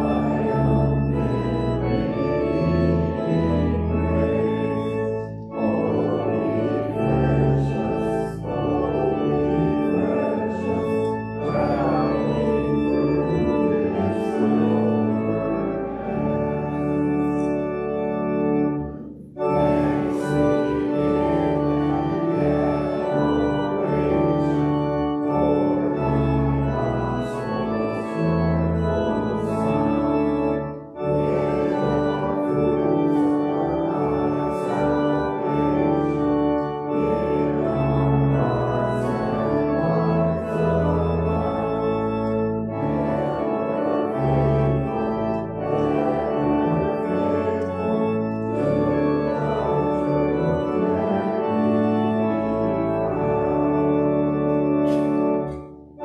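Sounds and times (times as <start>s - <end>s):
organ playing chords: 0.0s - 56.0s.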